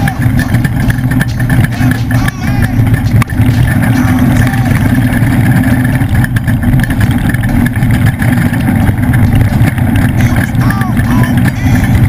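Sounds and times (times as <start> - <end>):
truck engine running hard: 0.0 - 12.0.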